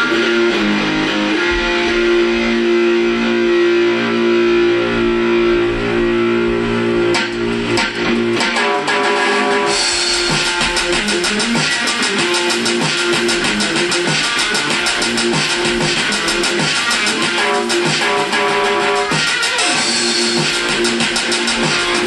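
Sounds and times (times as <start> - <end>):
band playing with electric guitar: 0.0 - 22.0.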